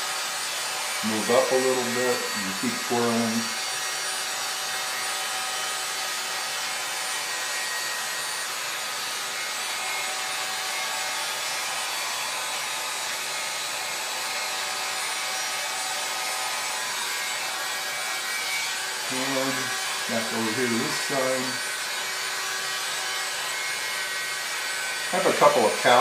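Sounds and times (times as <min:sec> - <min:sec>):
hot-air brush fan blowing: 0:00.0 - 0:26.0.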